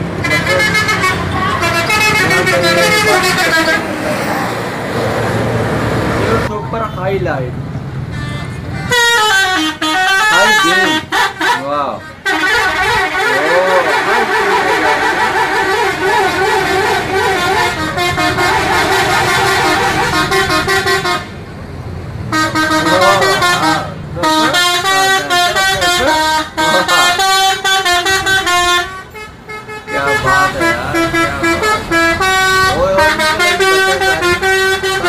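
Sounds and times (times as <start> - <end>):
bus horns playing melodies: 0.0 - 4.2, 8.1 - 21.6, 22.2 - 35.0.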